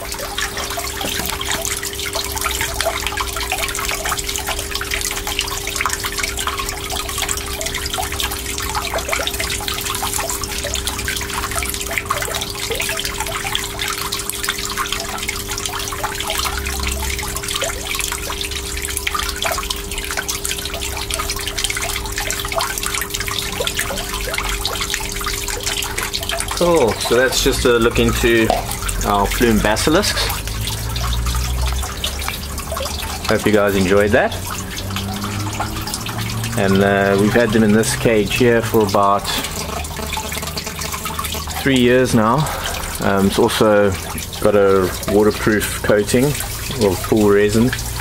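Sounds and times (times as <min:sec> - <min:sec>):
water drips and splashes: 0:00.0 - 0:48.0
water running and trickling: 0:00.0 - 0:48.0.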